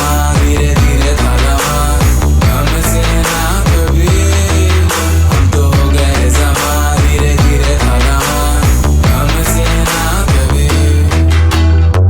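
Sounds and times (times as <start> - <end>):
electronic drums: 0.0 - 11.9
heavy bass line: 0.0 - 12.0.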